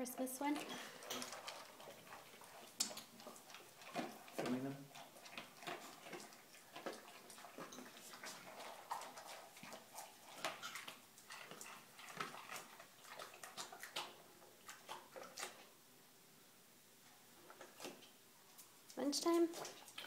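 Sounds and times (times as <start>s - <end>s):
dog chewing and crunching: 0.5s - 15.8s, 17.4s - 20.0s.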